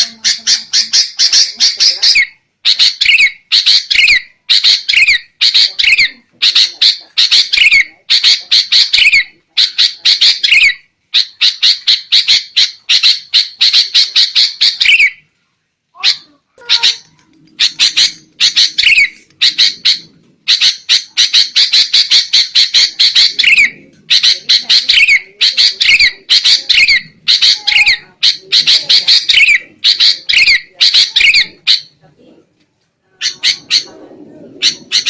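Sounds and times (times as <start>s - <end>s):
bulbuls alarm calling: 0.0s - 15.2s, 16.0s - 32.0s, 33.2s - 35.0s.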